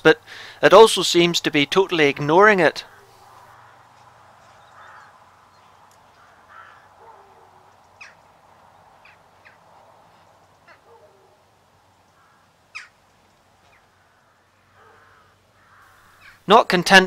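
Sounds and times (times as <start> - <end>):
crows calling: 2.8 - 16.5.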